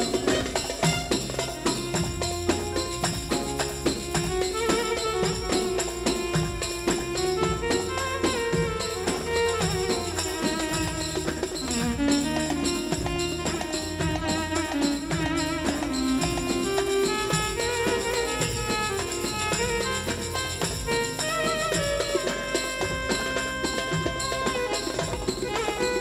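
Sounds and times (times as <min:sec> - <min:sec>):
drum beat: 0:00.0 - 0:26.0
keyboard melody: 0:00.0 - 0:26.0
tambourine rattling: 0:00.0 - 0:26.0.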